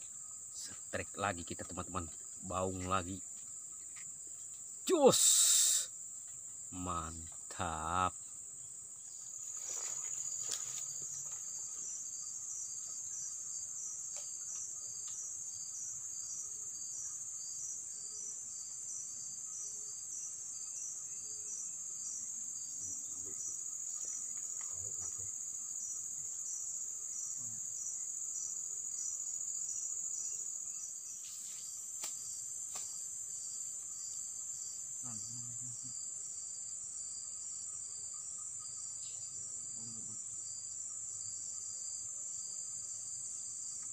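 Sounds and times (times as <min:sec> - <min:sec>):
high-pitched insect chorus: 0:00.0 - 0:43.9
pulsing insect call: 0:00.0 - 0:43.9.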